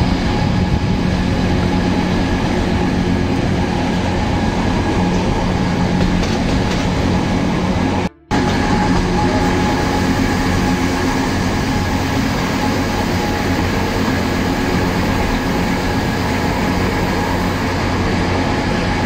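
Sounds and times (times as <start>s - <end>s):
electric train running noise: 0.0s - 19.0s.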